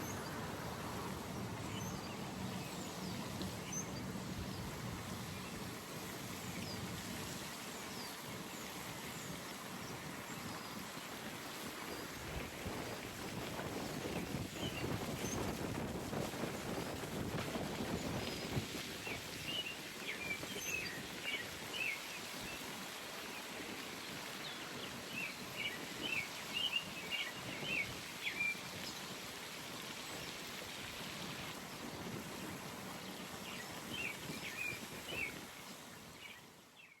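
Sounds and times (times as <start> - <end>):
pond ambience hiss: 0.0 - 37.0.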